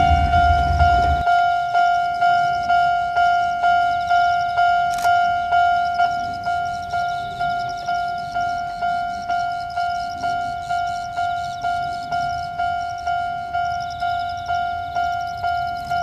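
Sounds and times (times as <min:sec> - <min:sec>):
level-crossing warning bell dinging: 0:00.0 - 0:16.0.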